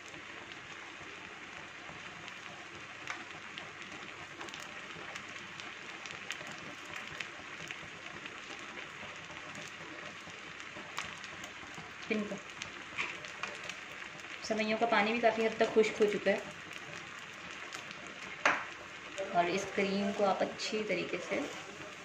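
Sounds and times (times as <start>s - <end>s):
syrup sizzling in a frying pan: 0.0s - 22.0s.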